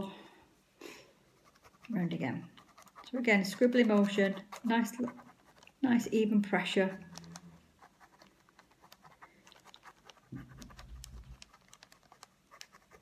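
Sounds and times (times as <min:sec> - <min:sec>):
pen scratching on paper: 0:01.3 - 0:06.1, 0:06.8 - 0:13.0.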